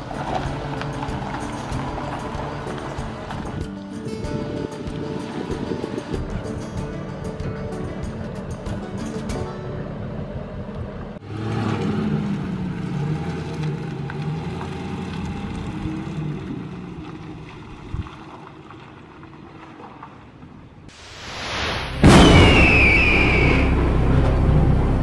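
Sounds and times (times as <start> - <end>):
pickup truck engine driving away: 0.0 - 19.8, 22.0 - 25.0.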